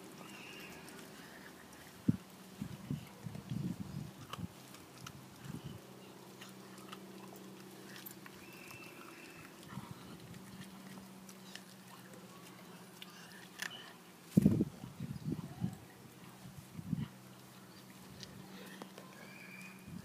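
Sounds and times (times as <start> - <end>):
steady low hum: 0.0 - 19.2
puppy gnawing on a bone: 0.0 - 20.0.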